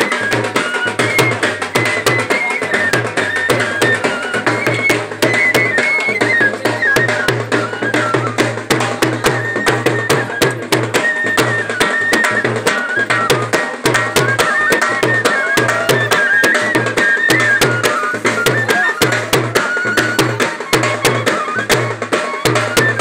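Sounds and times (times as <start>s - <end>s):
sharp clicking percussion: 0.0s - 23.0s
steady drum beat: 0.0s - 23.0s.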